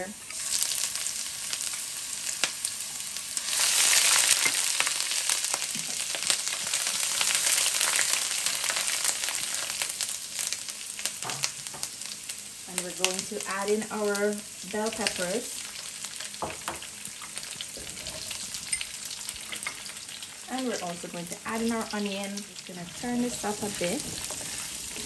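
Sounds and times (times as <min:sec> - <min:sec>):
garlic and ginger sizzling in oil: 0:00.0 - 0:25.0.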